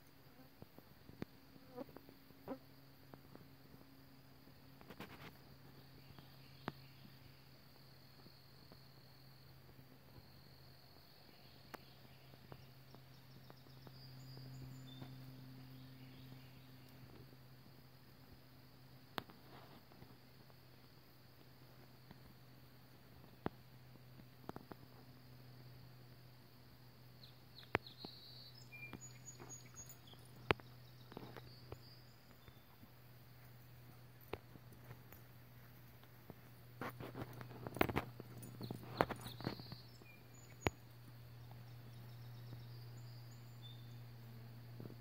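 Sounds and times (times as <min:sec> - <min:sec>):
low steady hum: 0:00.0 - 0:45.0
insects trilling: 0:00.1 - 0:45.0.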